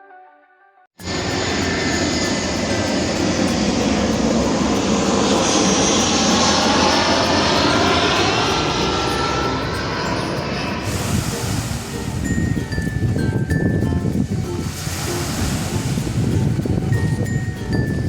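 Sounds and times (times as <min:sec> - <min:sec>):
airplane flying past: 0:01.0 - 0:18.0.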